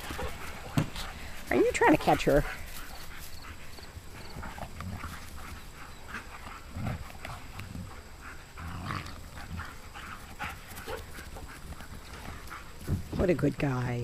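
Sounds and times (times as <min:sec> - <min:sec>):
dogs growling: 0:00.0 - 0:13.2
dogs huffing: 0:00.0 - 0:13.2.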